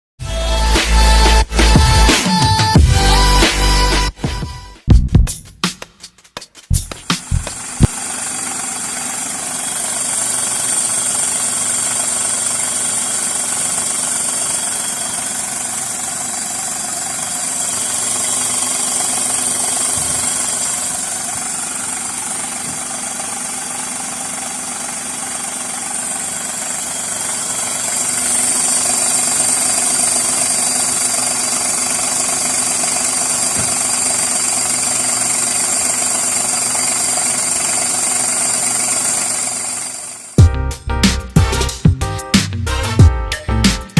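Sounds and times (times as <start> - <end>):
car engine running: 4.9 - 43.9.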